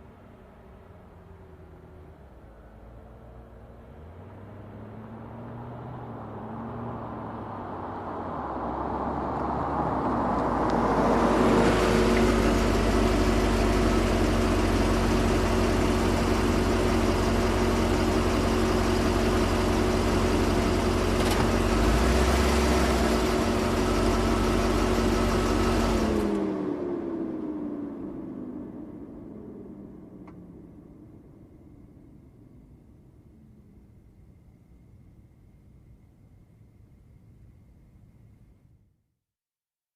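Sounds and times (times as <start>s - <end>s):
car engine approaching: 0.0s - 34.8s.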